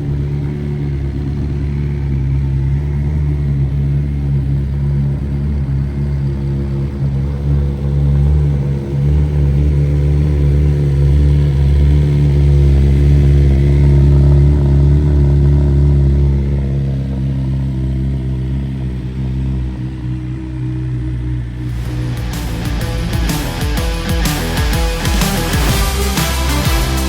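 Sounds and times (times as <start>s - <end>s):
motorcycle engine running steadily: 0.0s - 27.0s.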